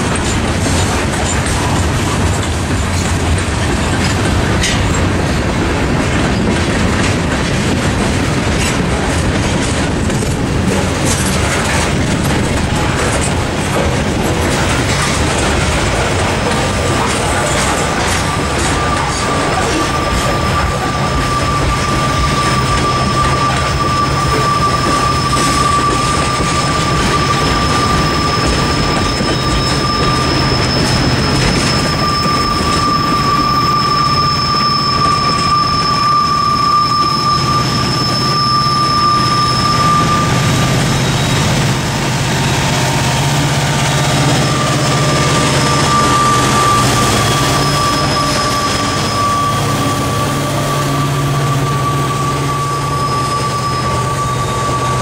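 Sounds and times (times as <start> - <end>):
diesel locomotive engine drone: 0.0 - 55.0
train wheels clattering on rails: 0.0 - 55.0
steady high-pitched tone: 10.9 - 55.0.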